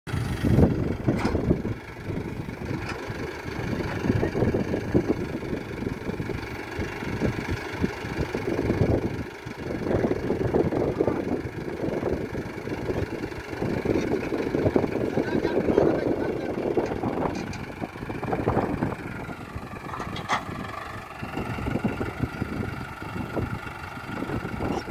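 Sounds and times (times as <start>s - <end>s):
tractor diesel engine running: 0.1s - 24.9s.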